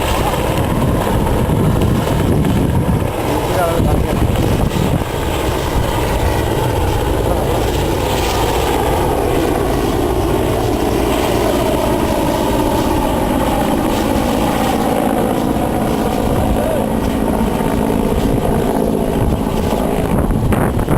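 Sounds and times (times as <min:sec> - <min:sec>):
aircraft engine drone: 0:00.0 - 0:20.9.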